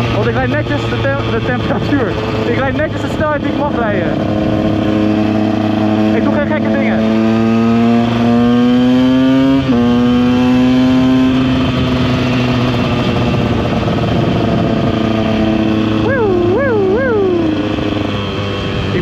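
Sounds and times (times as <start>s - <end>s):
two-stroke engine accelerating: 0.0s - 19.0s.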